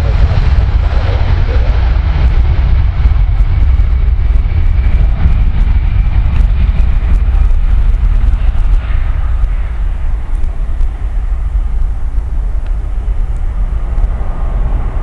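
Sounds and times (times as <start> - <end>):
jet engines at take-off power: 0.0 - 15.0
wind buffeting microphone: 0.0 - 15.0.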